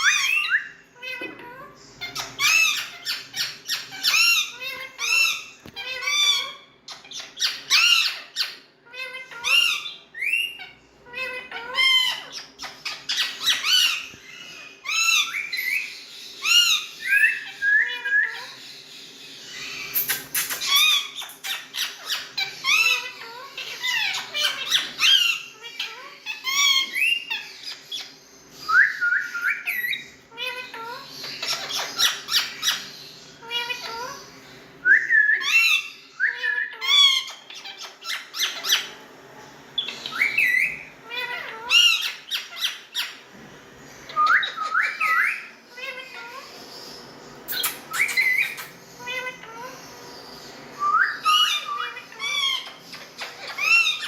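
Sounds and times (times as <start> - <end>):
parakeets squawking and chirping: 0.0 - 54.0.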